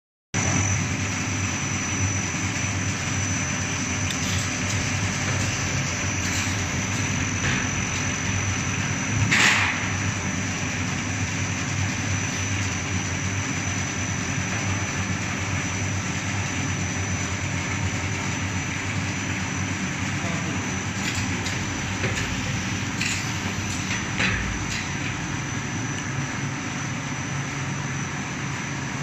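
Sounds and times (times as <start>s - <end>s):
machine low hum: 0.4s - 29.0s.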